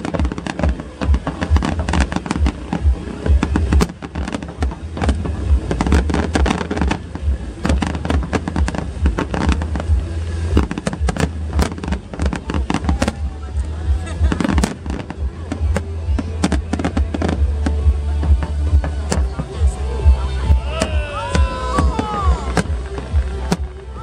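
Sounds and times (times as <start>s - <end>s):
fireworks bangs and crackles: 0.0s - 24.0s
low rumble: 0.0s - 24.0s.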